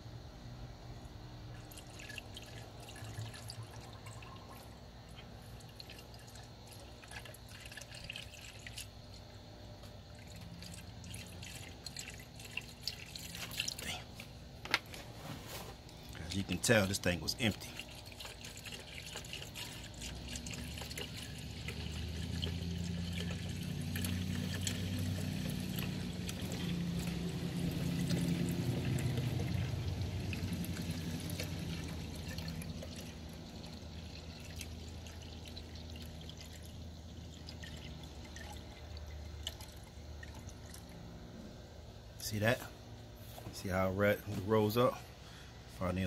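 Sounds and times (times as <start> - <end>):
liquid pouring into tank: 1.4 - 41.2.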